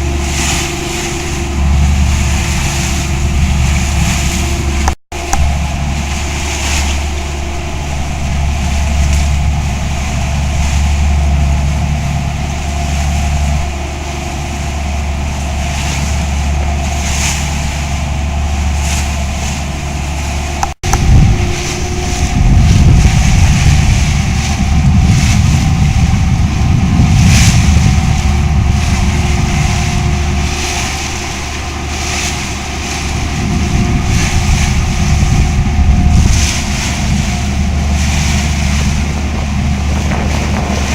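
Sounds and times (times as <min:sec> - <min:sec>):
boat engine humming: 0:00.0 - 0:40.9
wind buffeting microphone: 0:00.0 - 0:40.9.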